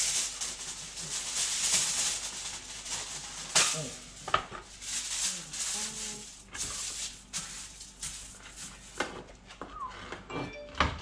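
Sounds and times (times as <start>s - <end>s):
aluminium foil crinkling: 0.0s - 9.7s.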